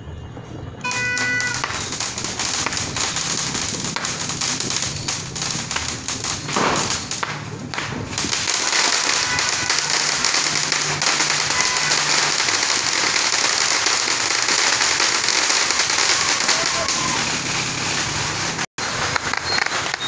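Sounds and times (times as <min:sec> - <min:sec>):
fireworks crackling: 0:00.3 - 0:20.0.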